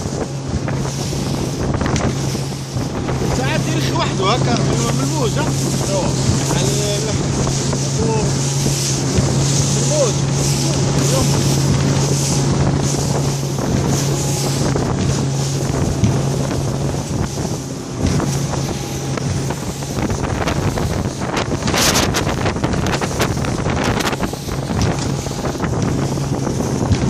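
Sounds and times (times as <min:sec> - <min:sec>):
boat engine drone: 0:00.0 - 0:27.0
hull slapping through waves: 0:00.0 - 0:27.0
rush of spray: 0:00.0 - 0:27.0
wind buffeting microphone: 0:00.0 - 0:27.0.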